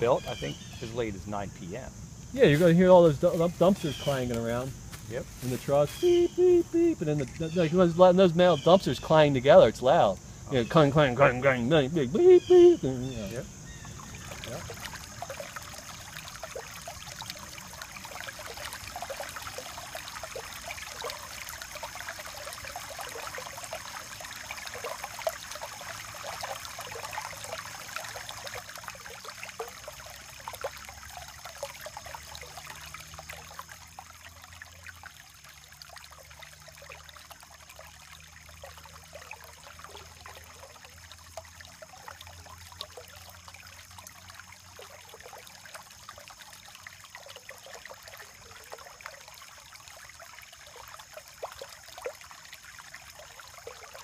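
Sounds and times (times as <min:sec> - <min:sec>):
creek water babbling over stones: 0:00.0 - 0:54.0.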